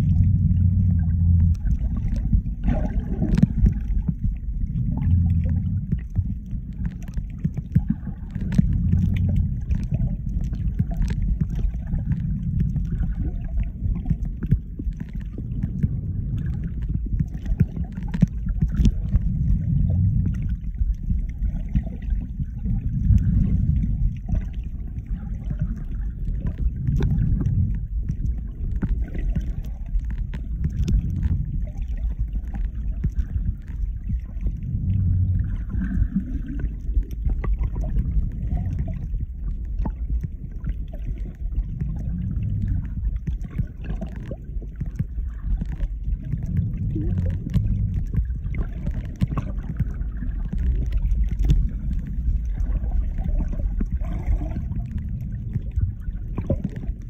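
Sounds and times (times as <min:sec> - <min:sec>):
underwater churning rumble: 0:00.0 - 0:57.0
faint clicks: 0:04.7 - 0:22.3, 0:22.9 - 0:57.0.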